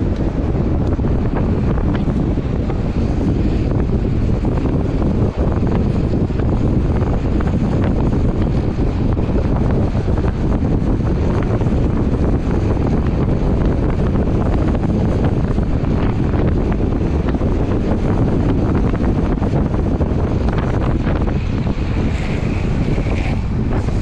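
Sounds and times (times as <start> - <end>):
longboard wheels rolling on asphalt: 0.0 - 24.0
wind buffeting microphone: 0.0 - 24.0.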